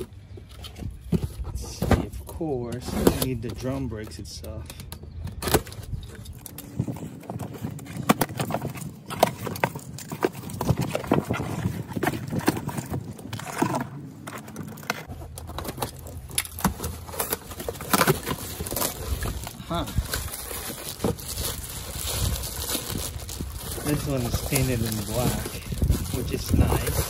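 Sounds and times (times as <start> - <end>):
cardboard flaps rustling and scraping: 0.0 - 4.4, 5.4 - 27.0.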